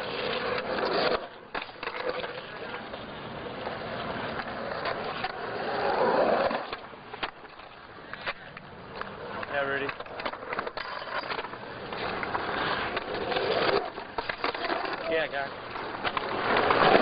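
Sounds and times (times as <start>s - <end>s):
skateboard clacks: 0.0s - 17.0s
skateboard wheels rolling on asphalt: 0.0s - 17.0s.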